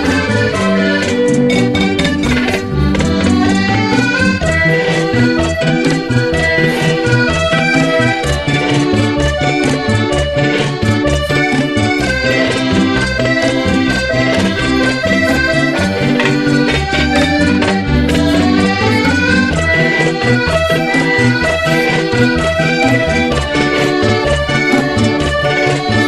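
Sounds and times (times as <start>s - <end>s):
accordion-led cumbia music: 0.0s - 26.0s
bass line: 0.0s - 26.0s
steady percussion rhythm: 0.0s - 26.0s.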